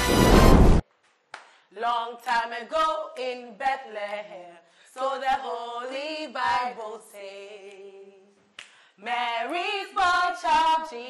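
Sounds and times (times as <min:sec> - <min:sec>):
women singing a cappella: 0:01.7 - 0:11.0.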